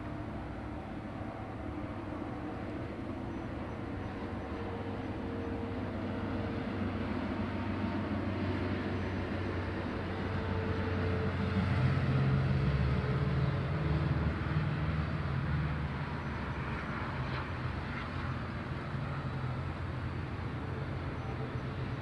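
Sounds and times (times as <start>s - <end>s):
distant engine drone: 0.0s - 22.0s.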